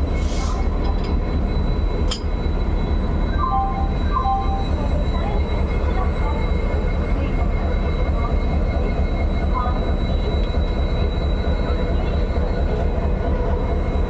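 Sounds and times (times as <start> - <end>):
locomotive rumble: 0.0 - 14.0.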